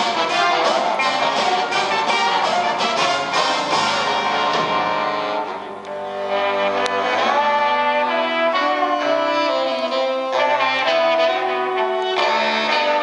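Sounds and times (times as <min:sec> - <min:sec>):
jazz big band playing: 0:00.0 - 0:13.0.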